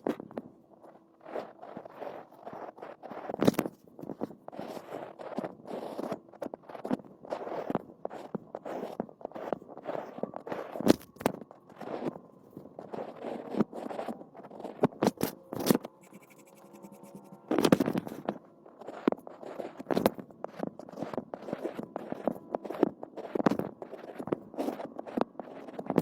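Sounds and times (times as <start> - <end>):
scraping and scratching: 0.0 - 26.0.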